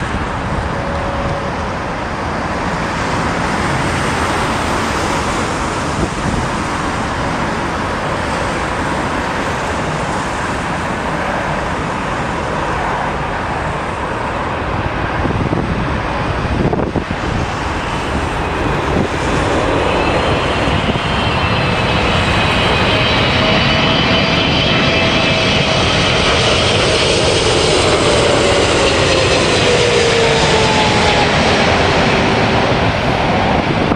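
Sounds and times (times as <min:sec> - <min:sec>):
heavy wind rumble: 0:00.0 - 0:33.9
jet engines whining: 0:00.0 - 0:33.9.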